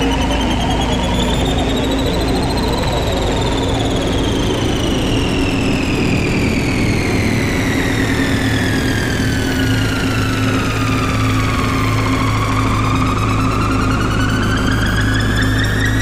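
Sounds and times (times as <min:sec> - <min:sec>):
high synthesizer tone gliding down: 0:00.0 - 0:16.0
low steady drone: 0:00.0 - 0:16.0.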